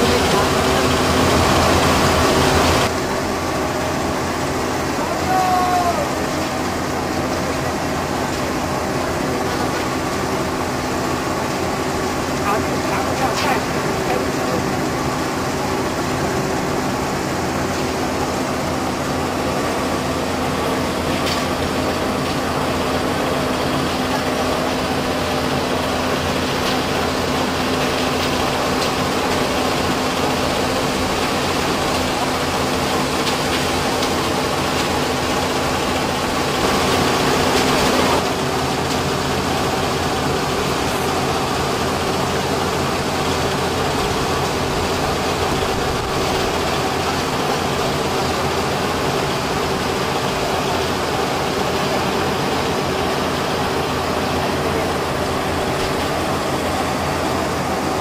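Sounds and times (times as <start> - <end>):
machinery rumbling: 0.0 - 58.0.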